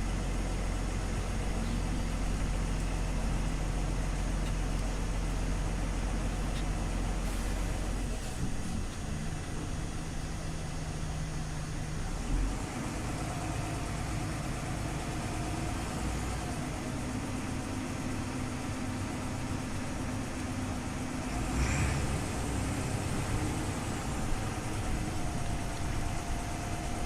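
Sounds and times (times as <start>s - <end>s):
bus engine drone: 0.0s - 27.0s.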